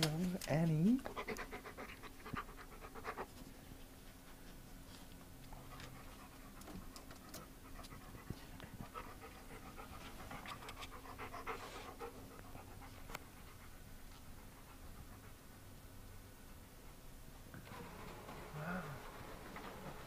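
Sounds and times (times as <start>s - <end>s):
dog panting: 0.3s - 17.2s.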